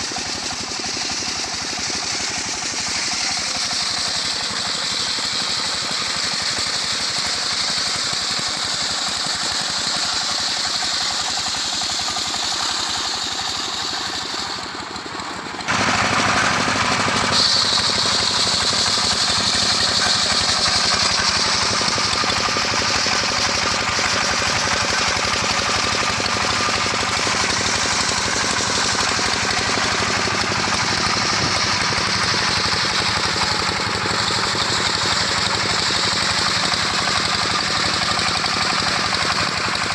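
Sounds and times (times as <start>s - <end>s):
sawmill sawing log: 0.0s - 39.9s.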